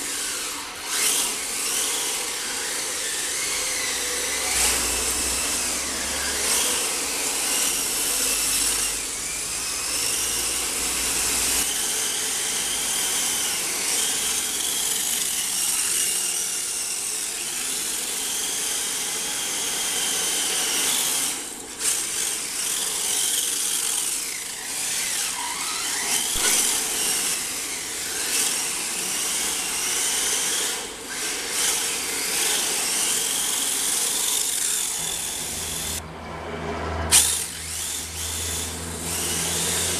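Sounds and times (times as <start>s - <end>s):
model car motors whining: 0.0s - 36.2s, 37.0s - 39.9s.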